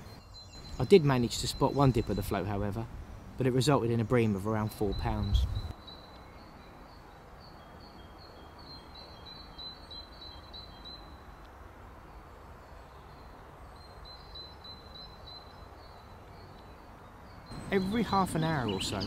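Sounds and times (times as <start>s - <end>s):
small bird singing: 0.0s - 11.4s, 12.0s - 19.0s
faint background noise: 0.0s - 19.0s.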